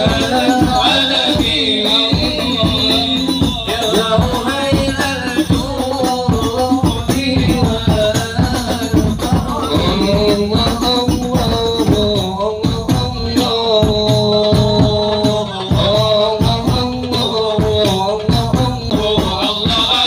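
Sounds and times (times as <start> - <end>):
hand-struck percussion: 0.0 - 20.0
voices singing together: 0.0 - 20.0.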